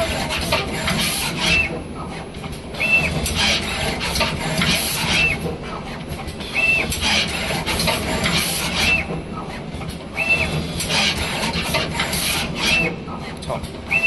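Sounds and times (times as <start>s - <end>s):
machine hiss and mechanical rubbing: 0.0s - 13.4s.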